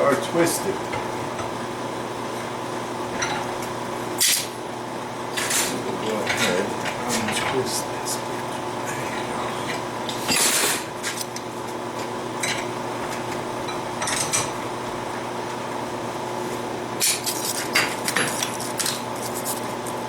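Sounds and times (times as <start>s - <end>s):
shop hum: 0.0s - 20.0s.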